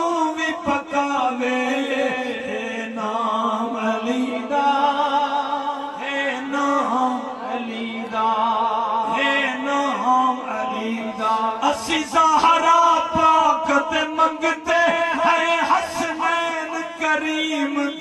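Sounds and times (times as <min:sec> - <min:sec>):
man chanting through loudspeaker: 0:00.0 - 0:18.0.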